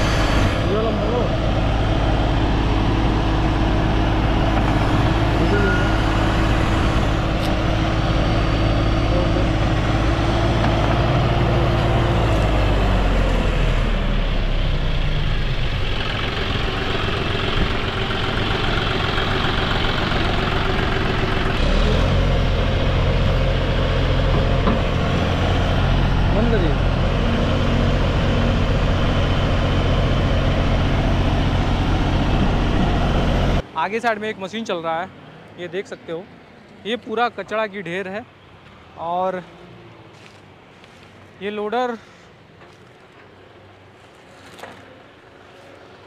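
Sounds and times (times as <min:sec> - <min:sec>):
tractor diesel engine running: 0:00.0 - 0:35.0, 0:37.1 - 0:46.0.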